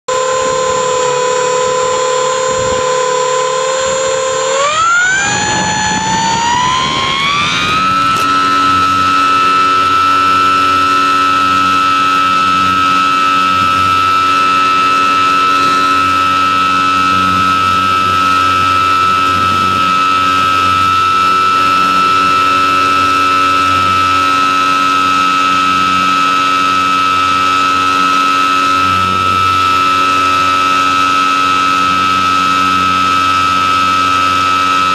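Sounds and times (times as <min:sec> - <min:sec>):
electric motor and propeller whine: 0:00.0 - 0:34.9.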